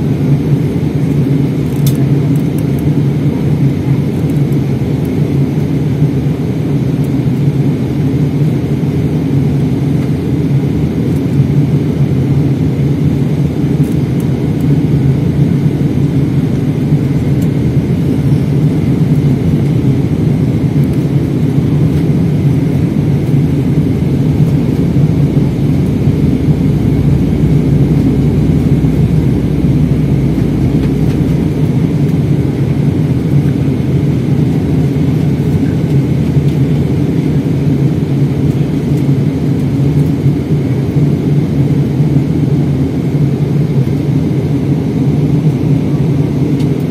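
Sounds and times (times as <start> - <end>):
jet engine roar in cabin: 0.0 - 46.9.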